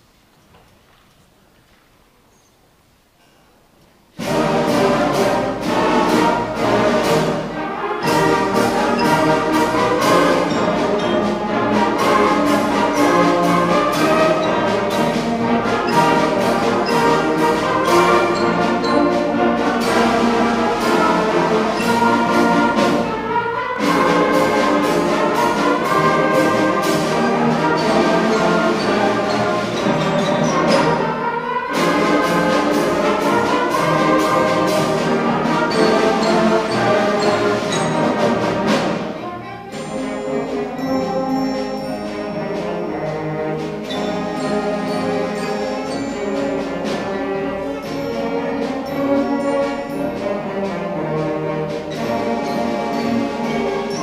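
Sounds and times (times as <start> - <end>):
concert band playing: 4.2 - 54.0.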